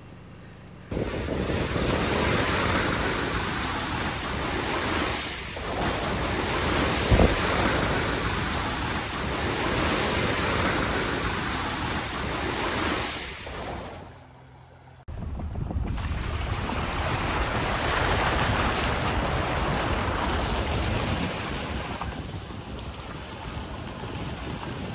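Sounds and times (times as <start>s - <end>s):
tyres on dirt road: 0.0s - 24.9s
wind on microphone: 0.9s - 14.2s, 15.1s - 24.9s.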